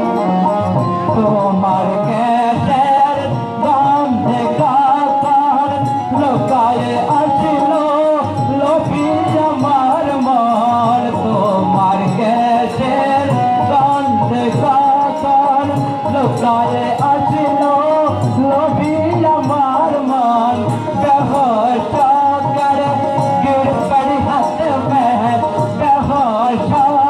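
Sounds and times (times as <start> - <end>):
boy singing into a microphone: 0.0 - 27.0
keyboard: 0.0 - 27.0
steady drum rhythm: 0.0 - 27.0
tabla: 0.0 - 27.0.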